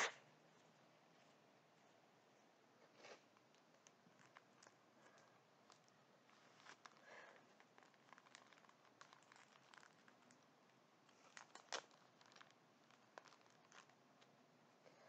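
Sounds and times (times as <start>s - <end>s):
faint clicks and crackles: 2.8s - 15.0s.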